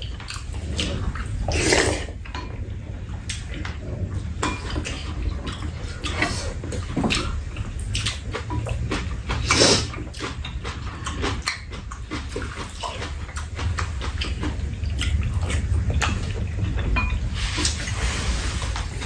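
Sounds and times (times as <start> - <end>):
eating sounds: 0.0 - 19.0.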